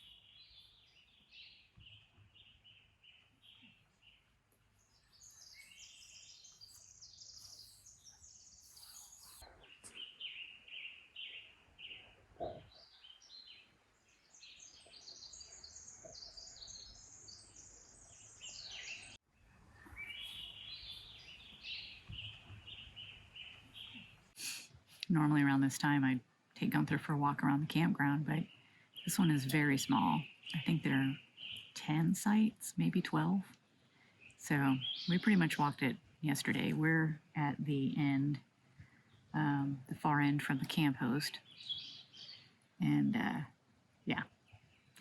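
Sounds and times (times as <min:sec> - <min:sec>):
small birds chirping: 0:00.0 - 0:43.5
faint outdoor hiss: 0:00.0 - 0:45.0.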